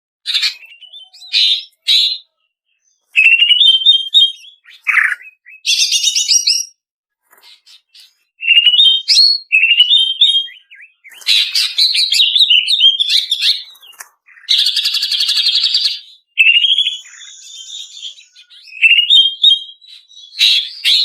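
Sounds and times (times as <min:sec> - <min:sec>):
bird singing chirps and trills: 0:00.3 - 0:21.0.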